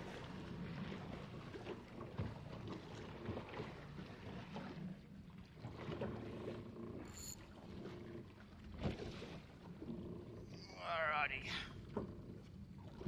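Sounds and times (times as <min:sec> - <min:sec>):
water lapping against boat hull: 0:00.0 - 0:13.0
wind: 0:00.0 - 0:13.0.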